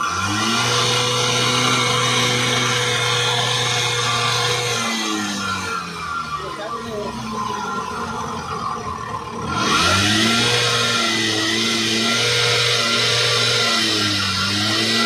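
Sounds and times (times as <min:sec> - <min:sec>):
two-stroke engine idling: 0:00.0 - 0:15.0.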